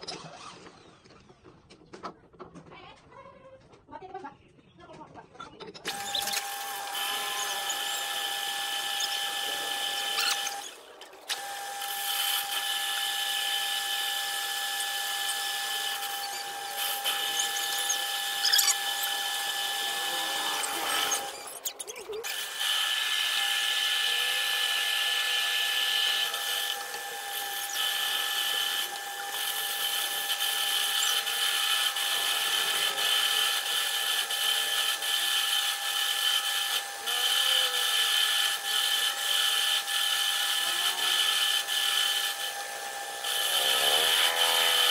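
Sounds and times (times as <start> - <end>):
metal lathe whining: 5.8 - 44.9.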